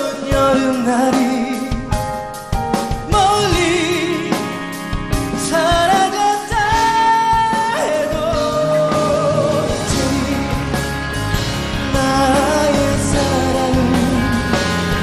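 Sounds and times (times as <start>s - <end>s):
man singing a slow ballad: 0.0s - 11.0s, 11.7s - 15.0s
backing band playing: 0.0s - 15.0s.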